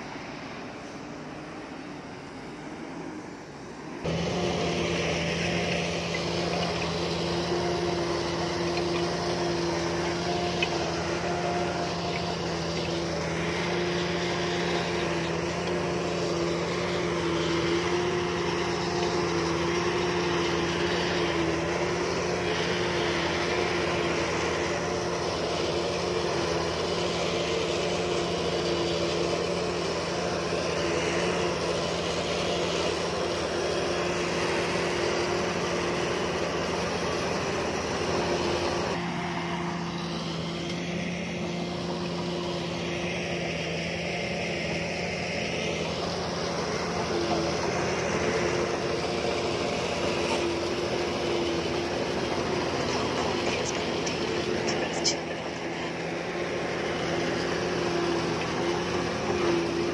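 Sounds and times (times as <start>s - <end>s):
construction machine diesel engine: 0.0s - 59.9s.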